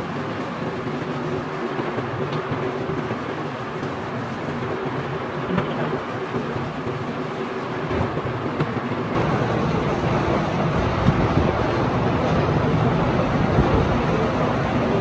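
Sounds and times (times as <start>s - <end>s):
workshop machinery running: 0.0s - 15.0s.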